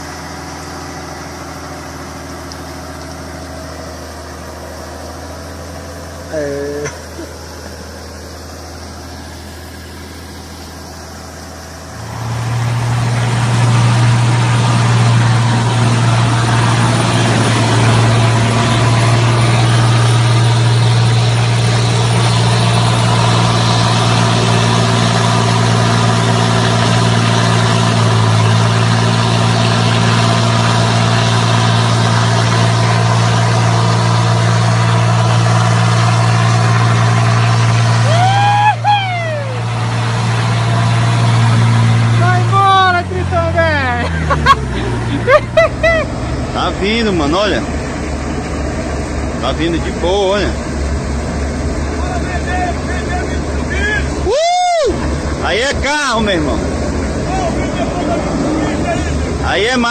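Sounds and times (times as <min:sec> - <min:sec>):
pickup engine idling and revving: 0:00.0 - 0:59.9.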